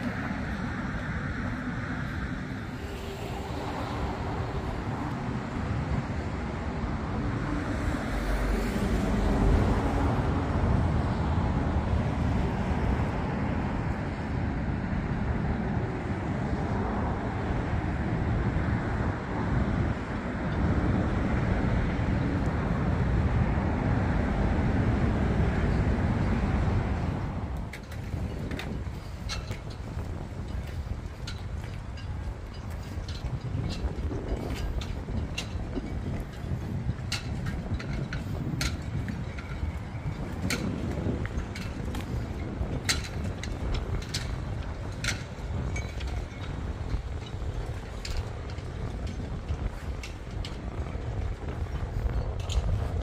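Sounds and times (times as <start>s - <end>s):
traffic drone: 0.0s - 53.0s
wind on microphone: 0.0s - 53.0s.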